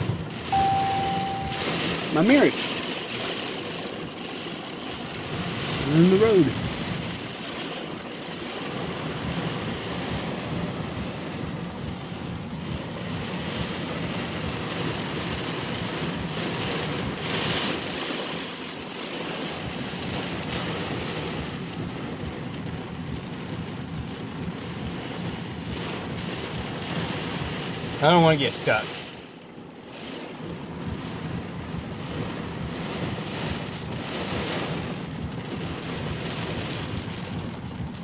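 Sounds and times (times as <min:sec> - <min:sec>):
heavy rain on car roof: 0:00.0 - 0:38.0.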